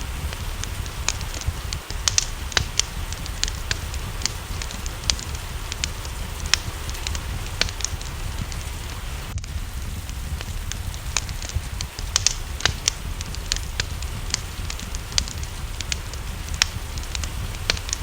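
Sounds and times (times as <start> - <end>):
rain rumbling: 0.0 - 18.0
wood fire crackling: 0.0 - 18.0.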